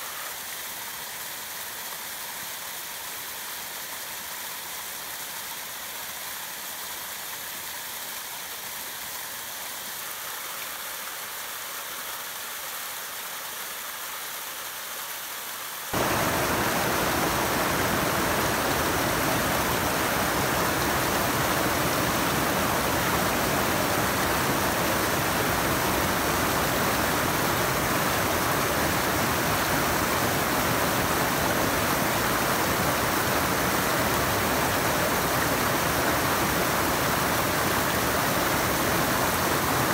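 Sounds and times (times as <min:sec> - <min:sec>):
creek water rushing over falls: 0:00.0 - 0:39.9.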